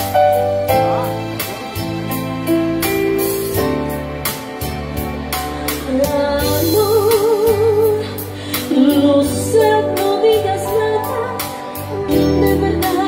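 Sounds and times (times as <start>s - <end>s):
ballad on electronic keyboard: 0.0s - 13.0s.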